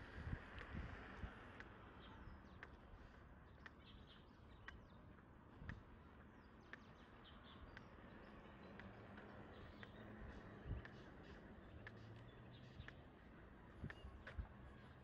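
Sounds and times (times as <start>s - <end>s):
light ticks: 0.4s - 14.9s.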